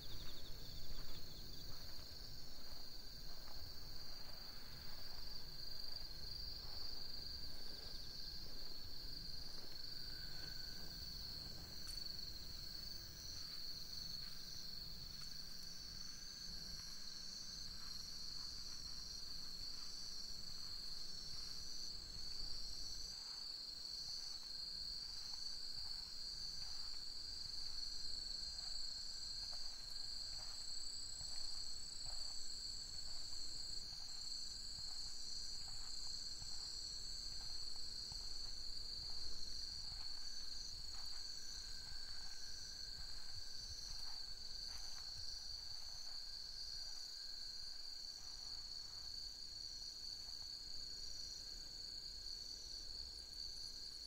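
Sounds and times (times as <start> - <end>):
crickets trilling: 0.0 - 54.0
pulsing insect trill: 0.0 - 54.0.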